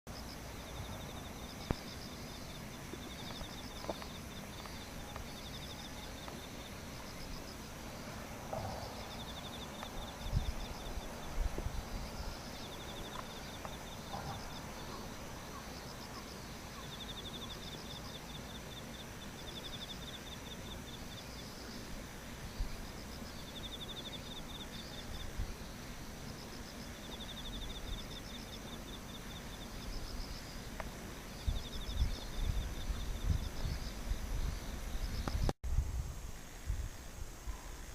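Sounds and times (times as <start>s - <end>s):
crickets singing in pulsed trills: 0.1s - 35.6s
high insect hum: 0.1s - 37.9s.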